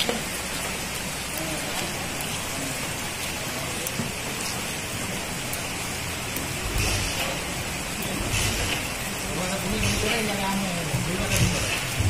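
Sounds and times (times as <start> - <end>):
stream water rushing and splashing: 0.0 - 12.0.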